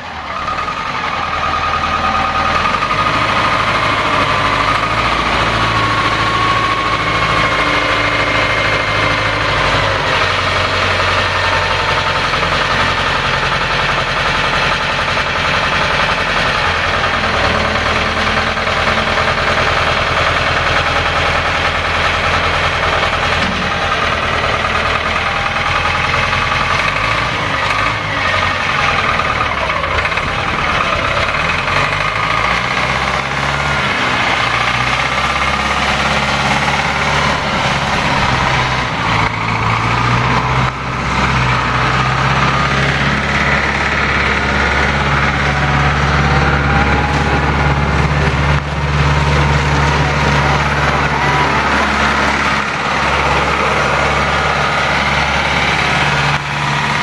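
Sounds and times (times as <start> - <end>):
diesel loader engine running: 0.0 - 57.0.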